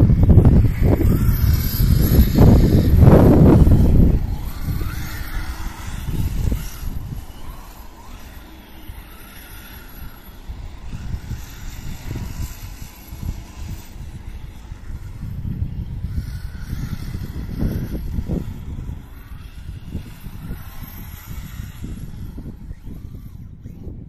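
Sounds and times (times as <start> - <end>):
electric toy car motor whining: 0.0 - 24.0
wind buffeting microphone: 0.0 - 24.0.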